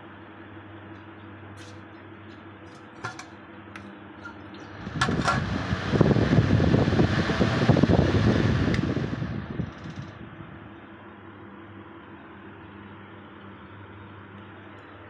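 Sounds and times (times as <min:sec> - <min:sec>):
fan air buffeting microphone: 0:00.0 - 0:15.0.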